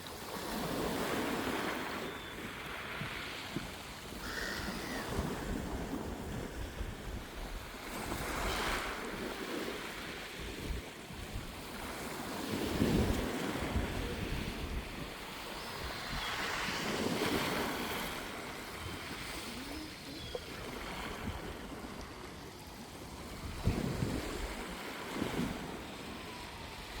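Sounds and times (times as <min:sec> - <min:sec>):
sea waves washing: 0:00.0 - 0:27.0
wind buffeting the microphone: 0:00.4 - 0:27.0.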